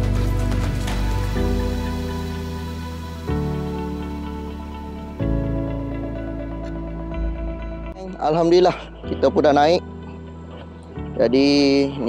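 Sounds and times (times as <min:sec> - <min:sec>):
instrumental music held chords: 0:00.0 - 0:12.0.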